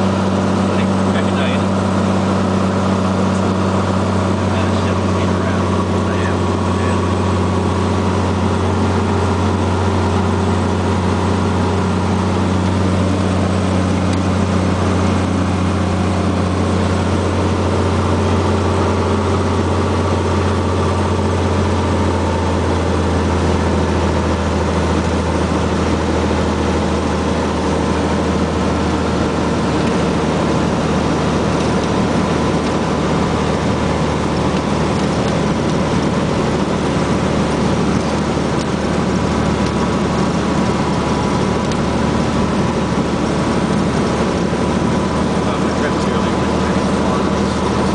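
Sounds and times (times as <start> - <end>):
airplane engine and propeller droning: 0.0 - 47.9.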